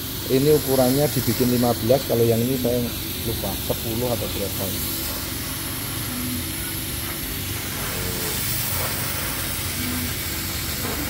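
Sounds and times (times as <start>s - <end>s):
laser cutter airy hiss: 0.0s - 11.0s
low machine hum: 0.0s - 11.0s.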